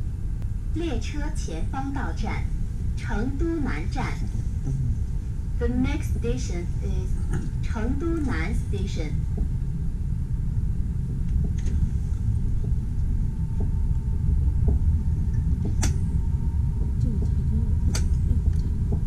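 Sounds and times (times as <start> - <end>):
faint steady whine: 0.0 - 19.0
train cabin low rumble: 0.0 - 19.0.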